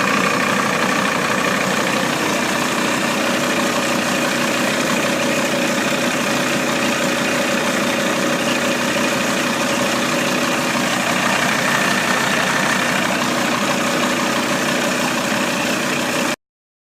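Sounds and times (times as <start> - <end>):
diesel engine idling: 0.0 - 16.4.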